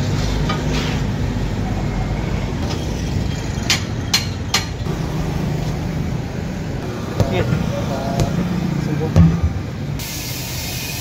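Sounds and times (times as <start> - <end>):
engine and traffic noise: 0.0 - 11.0.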